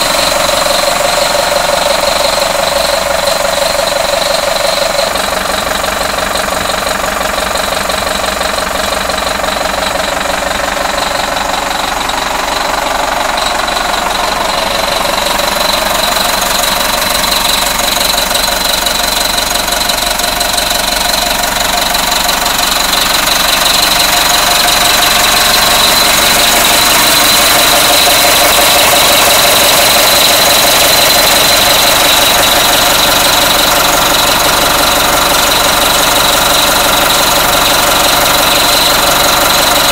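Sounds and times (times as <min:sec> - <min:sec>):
high-pitched whine: 0:00.0 - 0:39.9
truck engine running: 0:00.0 - 0:39.9.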